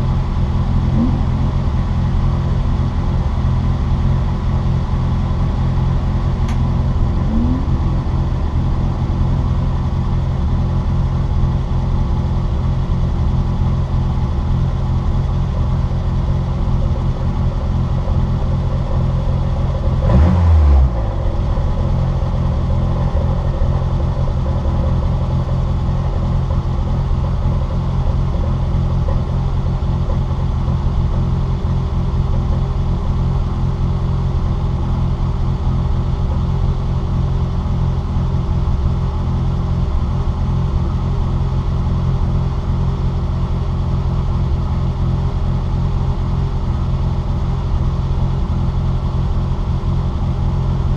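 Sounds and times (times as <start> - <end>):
car engine from inside cabin: 0.0 - 50.9
road noise: 0.0 - 50.9.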